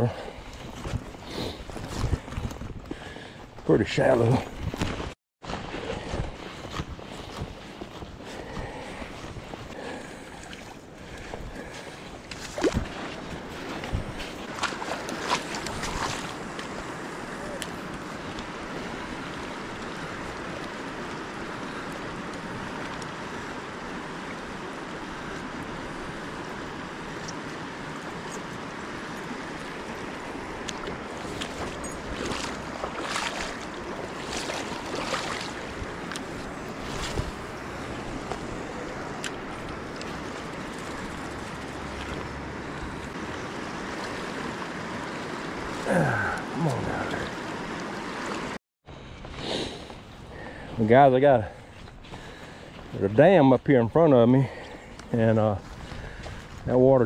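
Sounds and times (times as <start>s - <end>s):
river water flowing: 5.5s - 56.8s.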